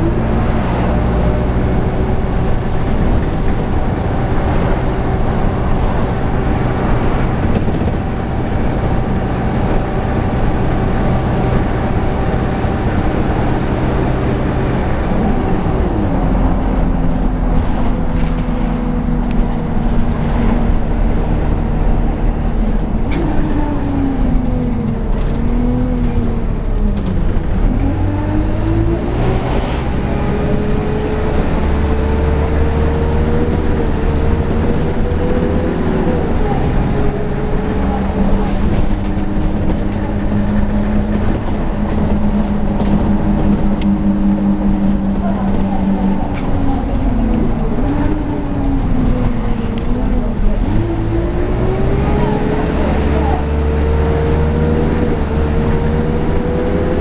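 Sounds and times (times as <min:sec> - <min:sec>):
bus engine drone: 0:00.0 - 0:57.0
bus engine whine: 0:00.0 - 0:57.0
road rumble: 0:00.0 - 0:57.0.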